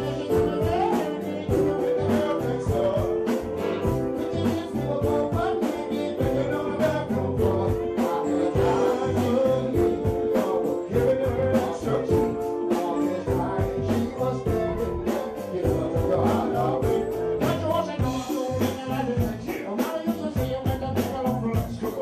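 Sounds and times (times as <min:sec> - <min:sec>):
person singing: 0:00.0 - 0:22.0
up-tempo dance music: 0:00.0 - 0:22.0.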